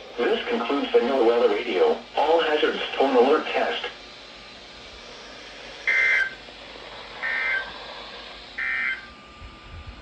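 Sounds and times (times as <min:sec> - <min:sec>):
radio hiss: 0:00.0 - 0:04.1, 0:04.9 - 0:09.0.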